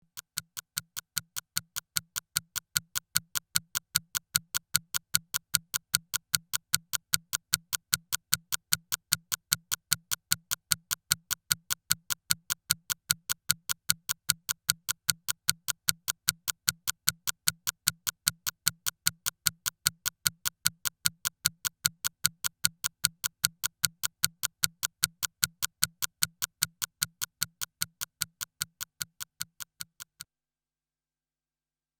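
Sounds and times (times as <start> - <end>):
clock ticking: 0.0 - 30.2.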